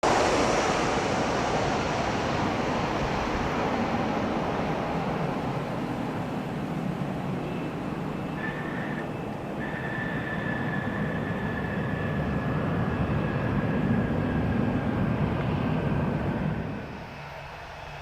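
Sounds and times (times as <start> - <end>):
jet airliner engine noise: 0.0 - 18.0.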